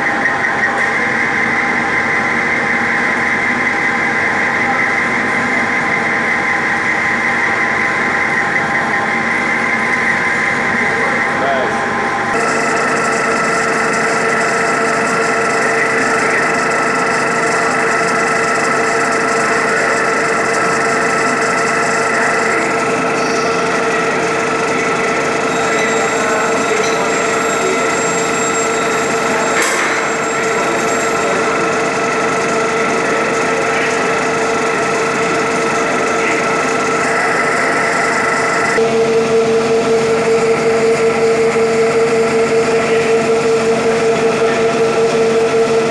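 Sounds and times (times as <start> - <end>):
lathe humming with gear whine: 0.0 - 45.9.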